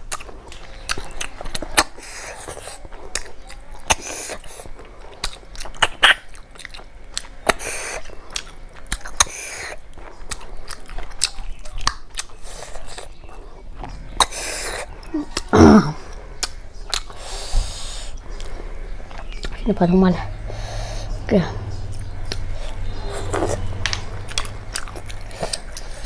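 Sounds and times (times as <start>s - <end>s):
wet chewing and lip smacks: 0.0s - 19.6s, 21.9s - 26.0s.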